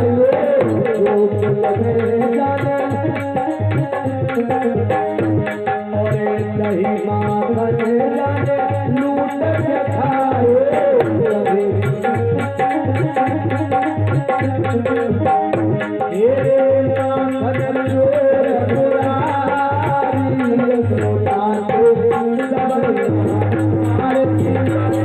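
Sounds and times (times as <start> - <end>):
tabla rhythm: 0.0 - 25.0.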